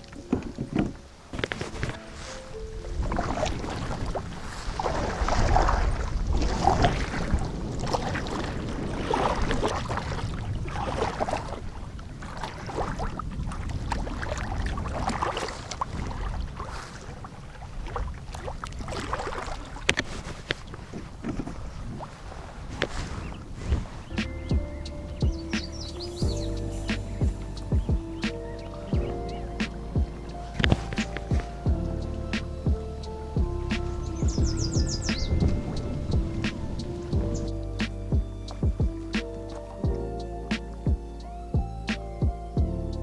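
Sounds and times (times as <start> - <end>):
water sloshing around kayak: 0.0 - 40.0
wind buffeting microphone: 0.0 - 43.0.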